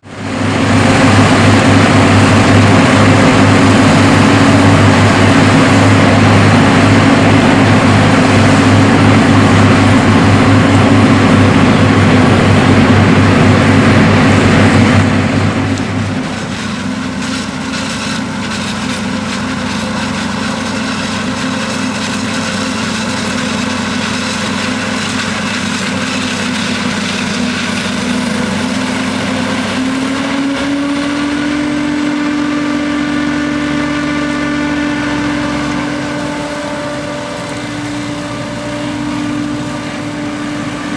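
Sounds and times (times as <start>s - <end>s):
diesel farm machinery engine: 0.0s - 40.9s.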